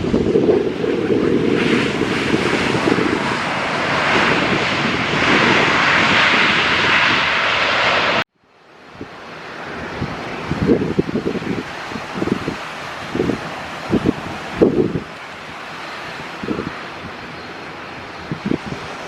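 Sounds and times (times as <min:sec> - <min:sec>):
wind buffeting microphone: 0:00.0 - 0:08.2, 0:08.9 - 0:19.0
airliner engines roaring overhead: 0:00.0 - 0:19.0.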